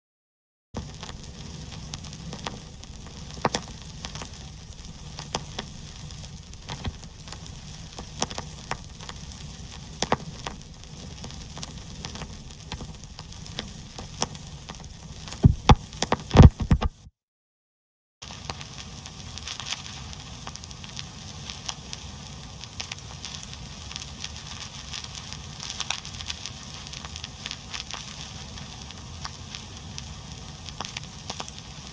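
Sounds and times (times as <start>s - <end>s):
vinyl record crackle and hiss: 0.8s - 17.1s, 18.2s - 31.9s.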